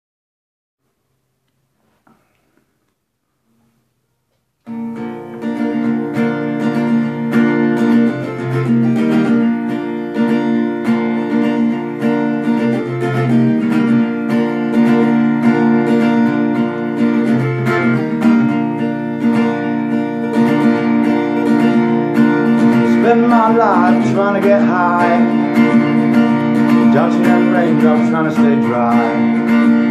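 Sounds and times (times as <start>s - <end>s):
acoustic guitar strumming: 4.6s - 29.9s.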